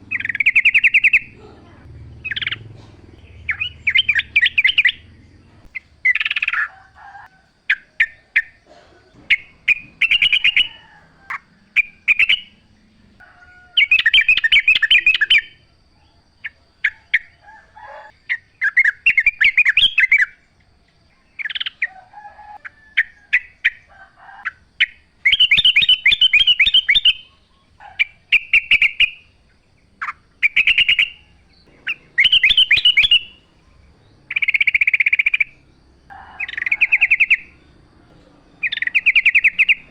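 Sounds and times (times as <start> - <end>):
bird singing rapid phrases: 0.0 - 7.0, 7.6 - 13.2, 13.8 - 22.0, 22.6 - 39.9
bird single calls: 0.0 - 15.7, 21.2 - 39.9.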